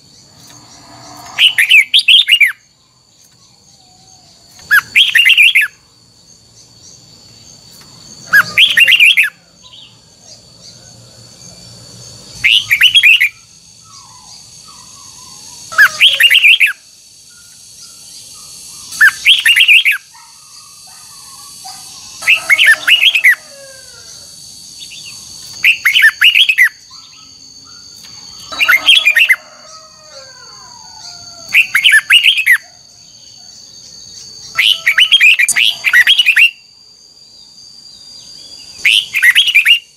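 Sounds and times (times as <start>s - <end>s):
bird singing warbling phrases: 0.0s - 11.0s, 12.3s - 24.2s, 24.8s - 36.7s, 38.0s - 39.9s
steady high-pitched whine: 0.0s - 39.9s.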